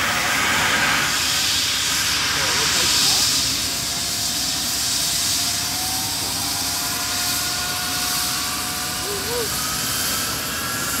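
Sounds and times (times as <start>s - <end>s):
helicopter turbines and rotor rushing: 0.0s - 11.0s
turbine whine rising in pitch: 0.0s - 11.0s.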